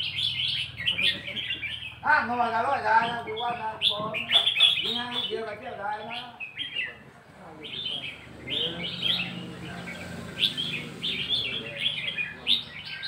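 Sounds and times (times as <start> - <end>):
birds chirping song: 0.0 - 13.0.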